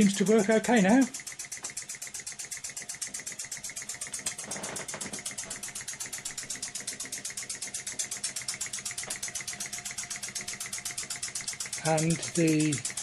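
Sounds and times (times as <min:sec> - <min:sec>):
toy steam engine chuffing: 0:00.0 - 0:13.0.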